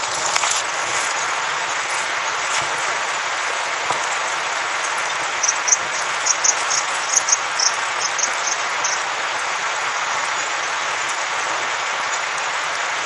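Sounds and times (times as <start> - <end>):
rushing blizzard wind: 0.0 - 11.6.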